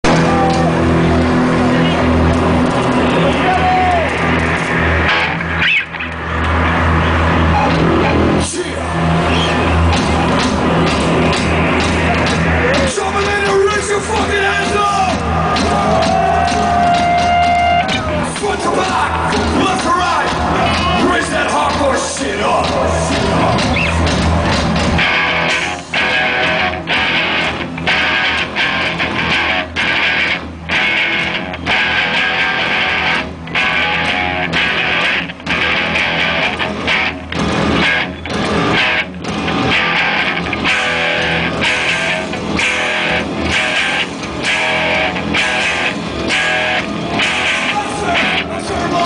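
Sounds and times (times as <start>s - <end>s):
loud rock music with distorted guitar: 0.0s - 49.0s.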